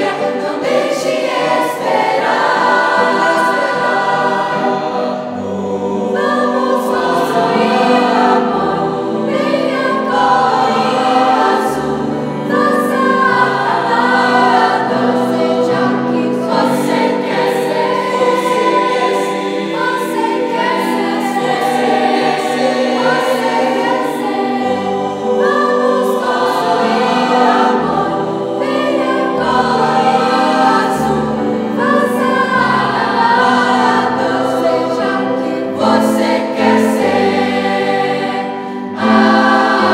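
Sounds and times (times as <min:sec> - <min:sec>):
youth choir singing: 0:00.0 - 0:39.9.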